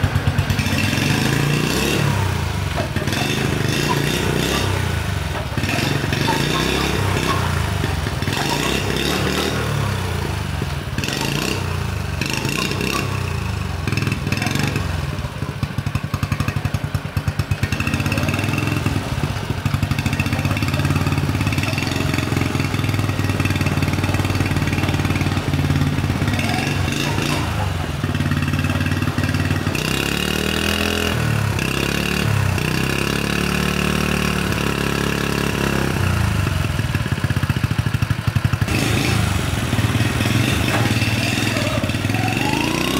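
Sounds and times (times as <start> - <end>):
small motorcycle engine running: 0.0 - 42.9.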